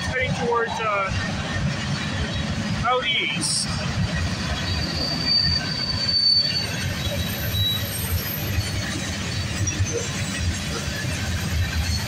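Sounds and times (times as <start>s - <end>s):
freight cars rumbling on rails: 0.0s - 12.0s.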